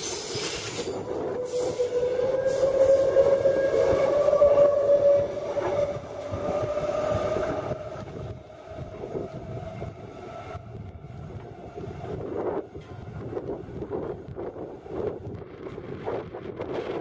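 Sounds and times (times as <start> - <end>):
approaching train rumble: 0.0 - 17.0
train rumbling with high whine: 0.0 - 17.0.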